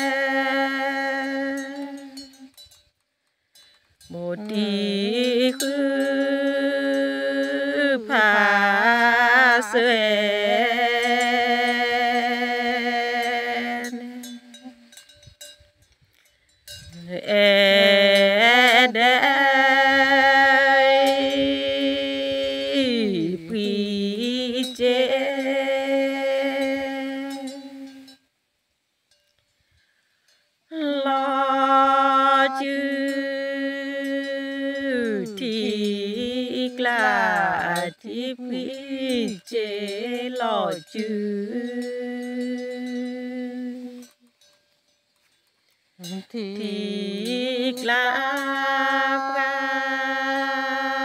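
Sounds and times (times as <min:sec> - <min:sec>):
person chanting unaccompanied: 0:00.0 - 0:02.6, 0:04.0 - 0:15.1, 0:16.8 - 0:28.2, 0:30.7 - 0:44.4, 0:46.0 - 0:51.0.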